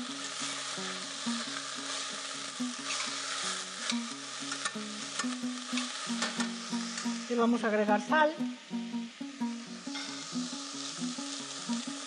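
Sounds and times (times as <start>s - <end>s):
background music: 0.0s - 12.0s
vegetables sizzling in oil: 0.0s - 12.0s.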